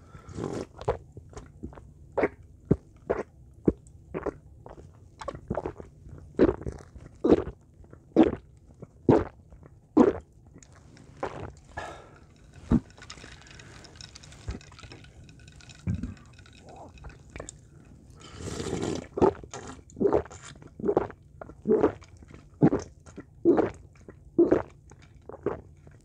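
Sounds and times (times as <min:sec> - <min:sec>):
person gulping soda: 0:00.1 - 0:26.0.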